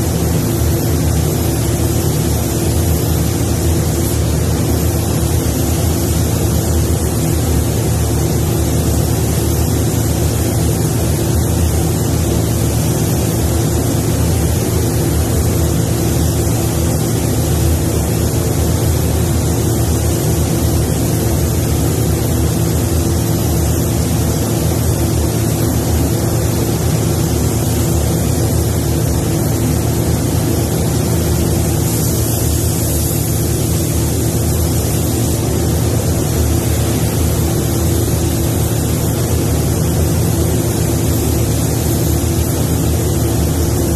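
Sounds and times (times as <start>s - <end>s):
ventilation fans droning: 0.0s - 43.9s.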